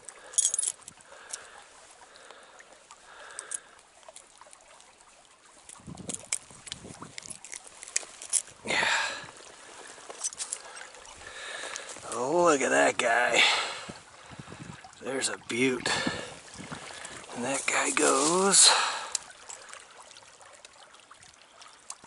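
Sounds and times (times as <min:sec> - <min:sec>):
stream trickling: 0:00.0 - 0:22.0.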